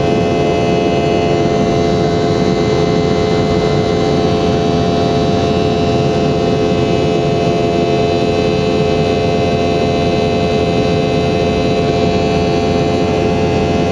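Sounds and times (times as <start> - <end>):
jet engines rumbling with whine: 0.0 - 13.9.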